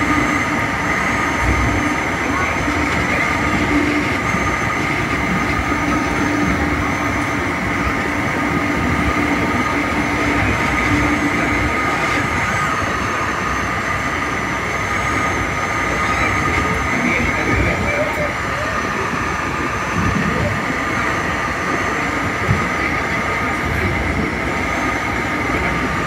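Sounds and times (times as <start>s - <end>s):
train high whine: 0.0s - 26.0s
wheels rumbling on rail: 0.0s - 26.0s.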